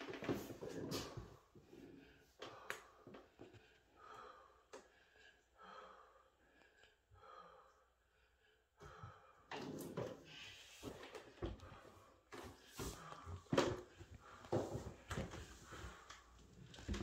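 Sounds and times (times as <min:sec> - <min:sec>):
faint slow breathing: 0:00.5 - 0:17.0.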